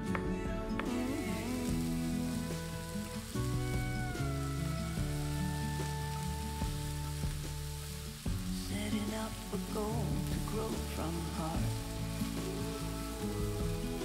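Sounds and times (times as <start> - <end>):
background music: 0.0 - 14.0
vegetables sizzling in a frying pan: 0.8 - 14.0.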